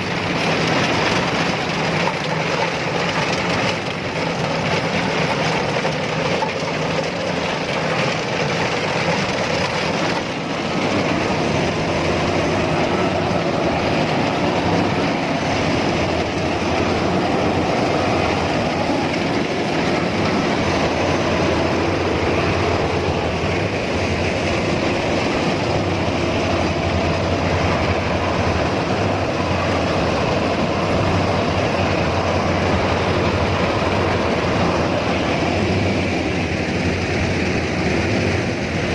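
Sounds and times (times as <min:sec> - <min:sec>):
combine harvester engine drone: 0:00.0 - 0:38.9
machinery clatter: 0:00.0 - 0:38.9.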